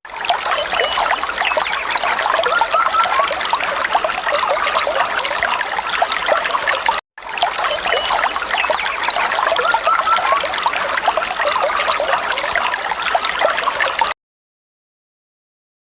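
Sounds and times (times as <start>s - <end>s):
water trickling and splashing: 0.1s - 14.2s.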